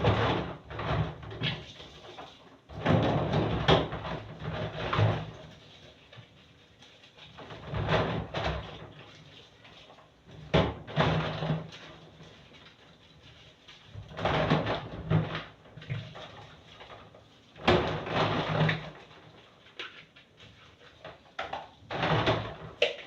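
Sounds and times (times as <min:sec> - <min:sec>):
rubbing and knocking: 0:00.0 - 0:23.0.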